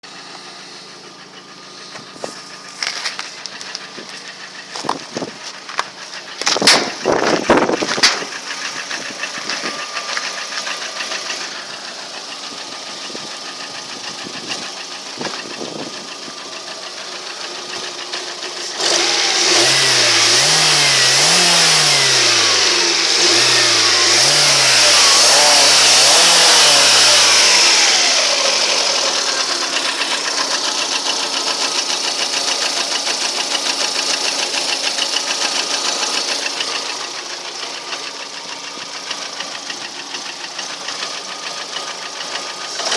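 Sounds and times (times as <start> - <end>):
car engine running and revving: 0.0 - 42.9
rhythmic engine knock: 1.0 - 42.9.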